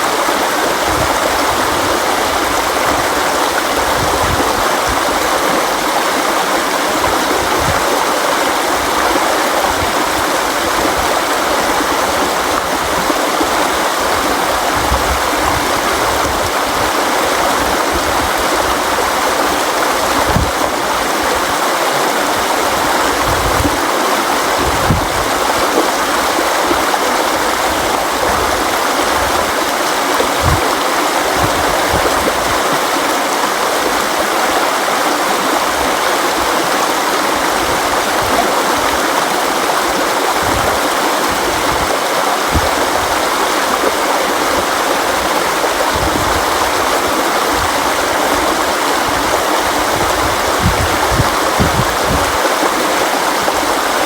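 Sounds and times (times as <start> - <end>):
river water rushing: 0.0 - 54.0
water surging thumps: 0.0 - 54.0.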